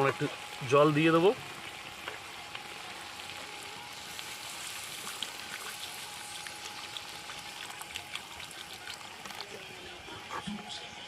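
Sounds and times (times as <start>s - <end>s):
curry sizzling and bubbling in a pan: 0.0s - 11.0s.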